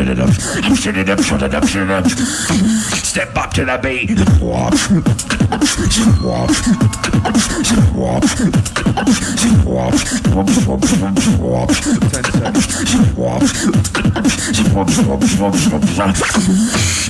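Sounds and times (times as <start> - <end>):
beatboxing into a microphone: 0.0 - 17.0.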